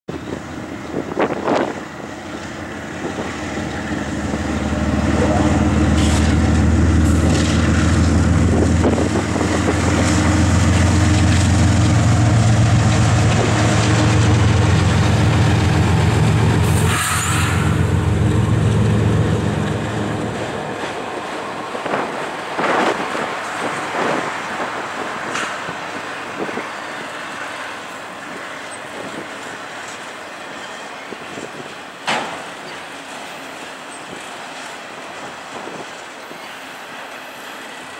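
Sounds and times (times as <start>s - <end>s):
diesel locomotive engine passing: 0.1s - 37.9s
freight cars rolling past: 0.1s - 37.9s
wheels clicking and creaking on rail: 0.1s - 37.9s.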